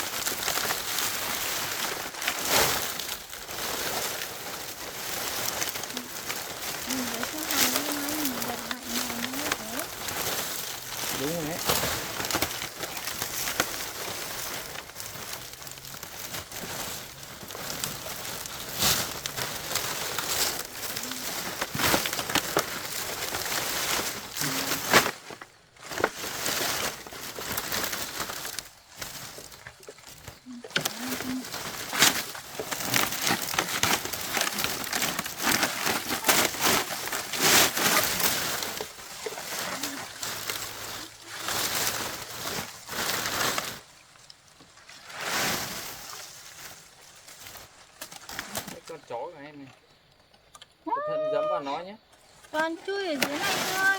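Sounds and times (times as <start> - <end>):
dry leaves rustling and crackling: 0.0 - 49.4, 51.0 - 53.9.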